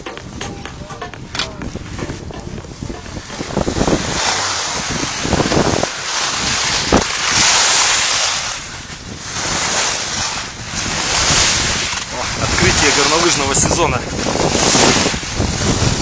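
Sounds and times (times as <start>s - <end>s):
wind rushing over microphone: 0.0s - 16.0s
skis hissing on snow: 3.1s - 16.0s.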